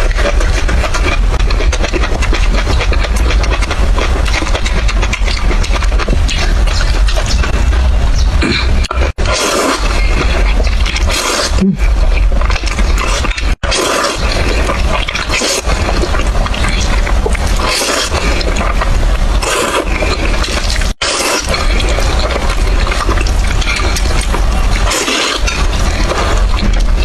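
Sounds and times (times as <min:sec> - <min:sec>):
wet slurping and chewing: 0:00.0 - 0:27.0.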